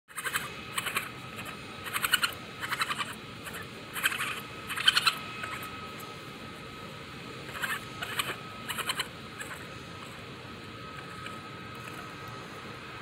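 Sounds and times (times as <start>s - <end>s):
baby raccoon chittering: 0.1s - 6.2s, 7.3s - 12.2s.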